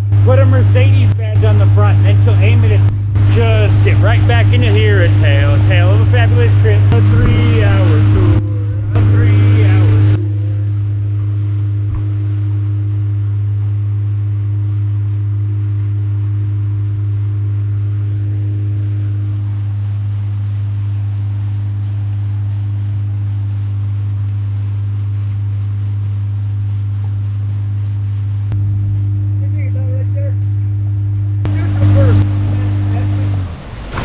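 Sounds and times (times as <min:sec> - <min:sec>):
faint steady hum: 0:00.0 - 0:34.0
motorboat engine drone: 0:00.0 - 0:34.0.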